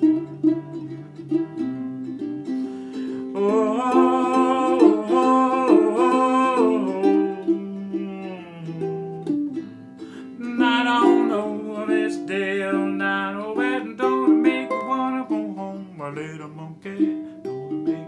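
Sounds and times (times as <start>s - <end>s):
ukulele strumming blues chords: 0.0s - 18.0s.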